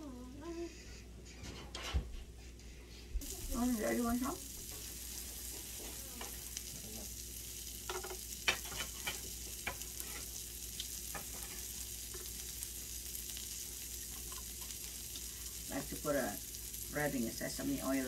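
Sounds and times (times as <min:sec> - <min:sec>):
beef sizzling on grill: 0:03.2 - 0:18.0.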